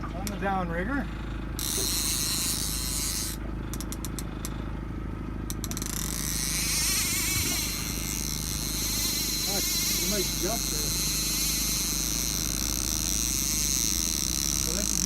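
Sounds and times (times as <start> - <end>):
boat motor running: 0.0 - 15.0
fishing tackle clicks: 1.6 - 4.6, 5.5 - 15.0.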